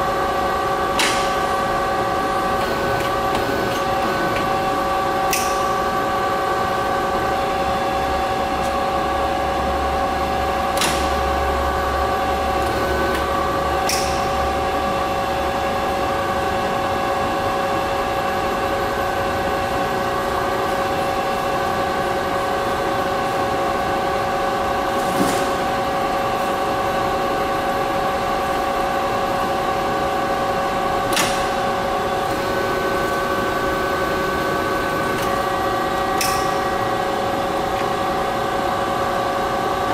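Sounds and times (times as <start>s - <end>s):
lathe gear whine: 0.0s - 24.8s, 31.6s - 39.9s.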